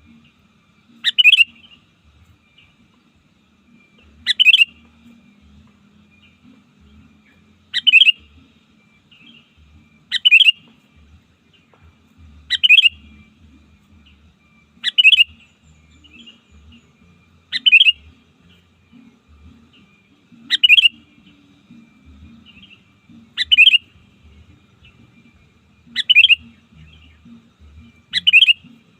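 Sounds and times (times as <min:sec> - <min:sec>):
bulbul calling: 0:00.0 - 0:28.9
faint bird chirps: 0:00.0 - 0:28.9.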